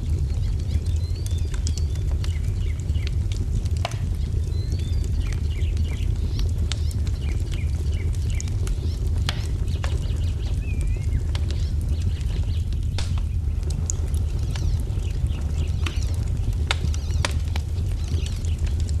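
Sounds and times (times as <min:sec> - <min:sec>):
birds chirping: 0:00.0 - 0:19.0
wood fire crackling: 0:00.0 - 0:19.0.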